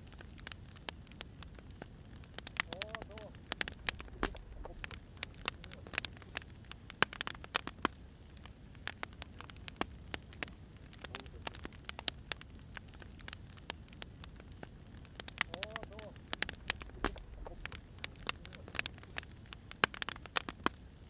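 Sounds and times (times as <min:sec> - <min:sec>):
firewood crackling and popping: 0:00.0 - 0:21.0
faint low rumble: 0:01.3 - 0:07.5, 0:08.1 - 0:19.8.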